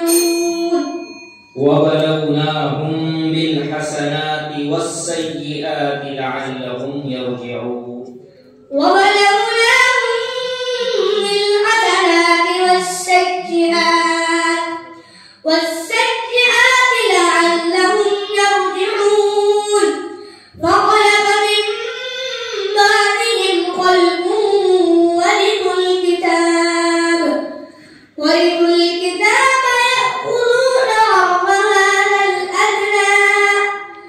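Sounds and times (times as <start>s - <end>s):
boy reciting melodically: 0.0s - 34.0s.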